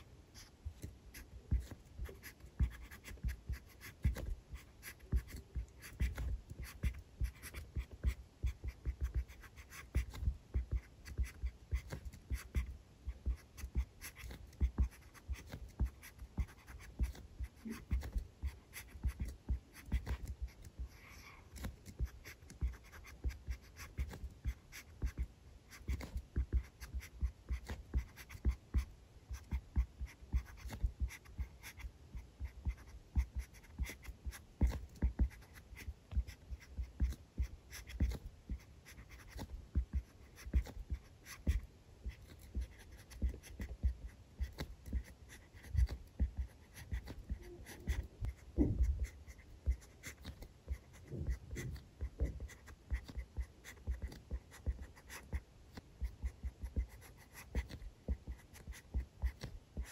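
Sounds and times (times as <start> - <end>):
pen writing on paper: 0.0 - 59.9.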